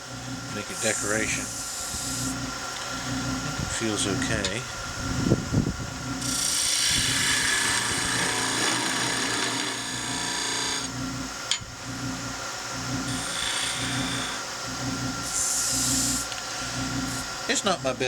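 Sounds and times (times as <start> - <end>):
lathe running with soft pulse: 0.0 - 18.0
tool hissing on spinning wood: 0.0 - 18.0.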